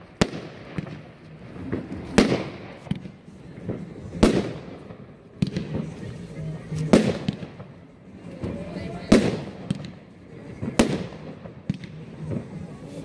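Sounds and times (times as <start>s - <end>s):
firework pops and crackle: 0.0s - 13.0s
fireworks bursting with sharp bangs: 0.0s - 13.0s.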